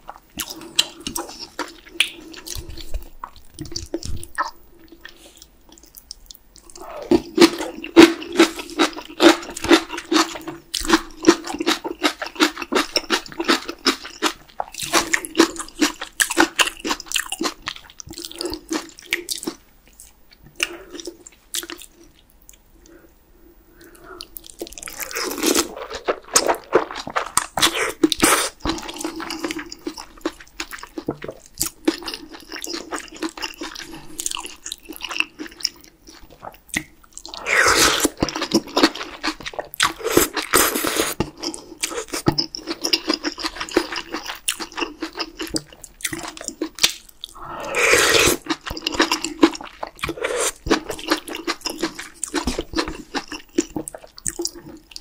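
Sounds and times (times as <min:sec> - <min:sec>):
wet chewing and mouth sounds: 0:00.0 - 0:23.1, 0:23.7 - 0:55.0.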